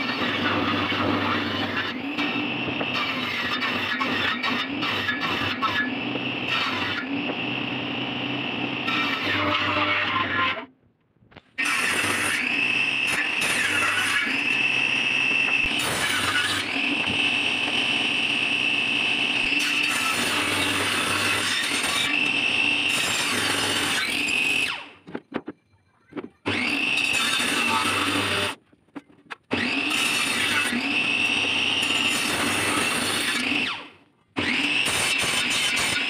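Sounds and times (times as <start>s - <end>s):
table saw cutting wood: 0.0s - 10.7s, 11.6s - 25.0s, 26.4s - 28.6s, 29.5s - 36.0s.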